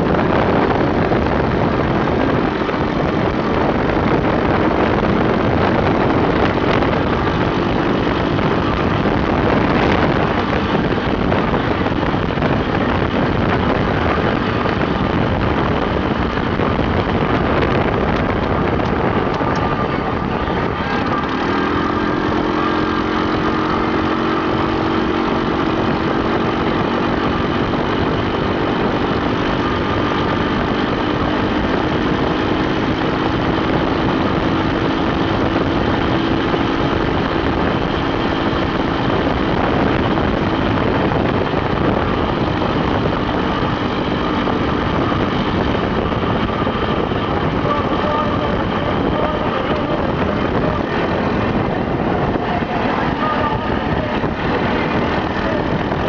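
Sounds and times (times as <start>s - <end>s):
constant rushing noise: 0.0s - 56.0s
off-road vehicle engines droning: 0.0s - 56.0s.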